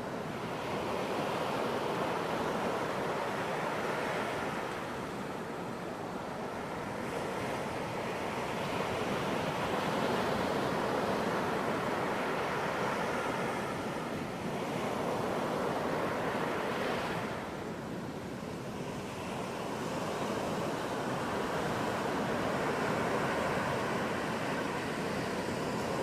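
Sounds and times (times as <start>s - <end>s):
ocean surf washing onto beach: 0.0s - 26.0s.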